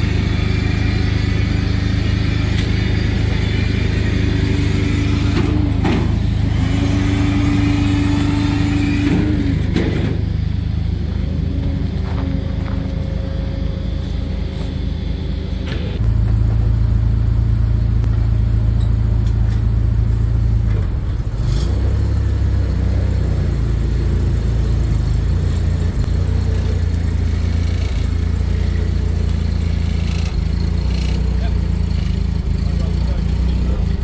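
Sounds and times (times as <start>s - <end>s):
truck engine under load: 0.0s - 34.0s.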